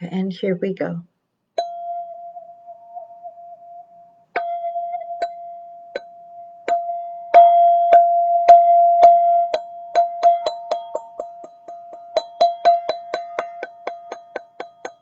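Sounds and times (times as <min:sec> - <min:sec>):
struck metal bell-like tone: 0:01.6 - 0:15.0.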